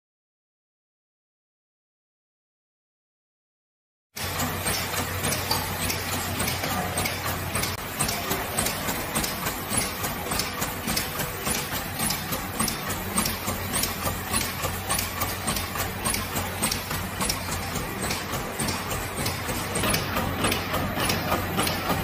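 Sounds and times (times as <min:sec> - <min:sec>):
packing machine clacking: 0:04.2 - 0:22.0.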